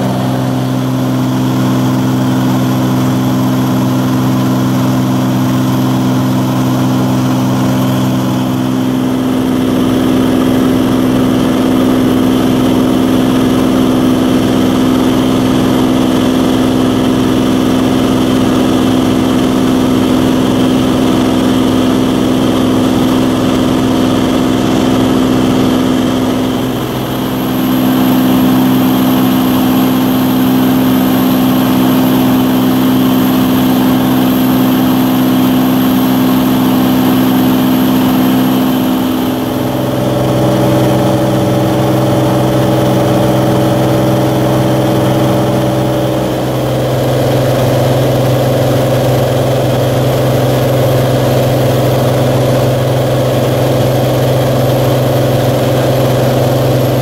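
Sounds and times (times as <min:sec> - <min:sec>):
piston engine and propeller droning: 0:00.0 - 0:57.0.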